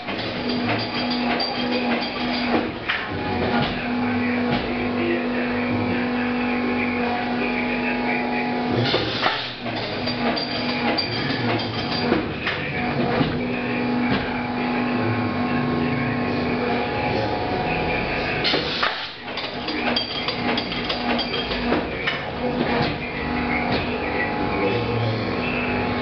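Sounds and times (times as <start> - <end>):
recycling machine hum: 0.0 - 26.0.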